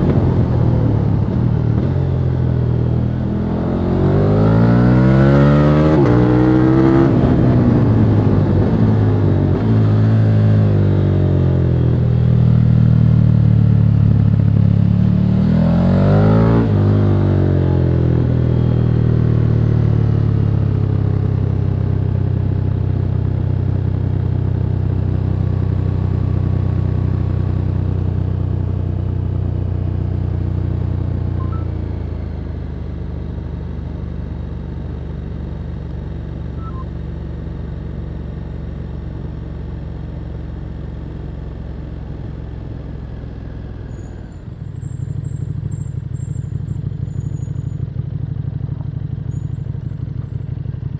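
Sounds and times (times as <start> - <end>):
motorcycle engine accelerating and shifting: 0.0 - 50.9.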